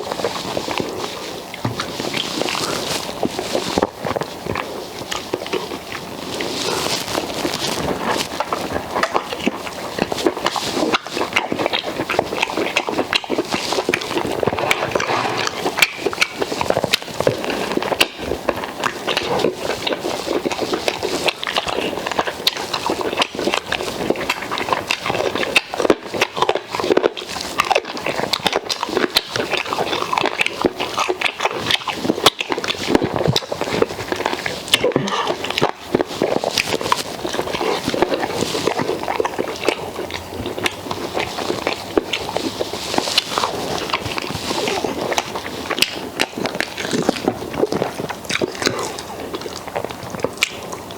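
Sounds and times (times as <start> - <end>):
person chewing and lip-smacking: 0.0 - 50.9.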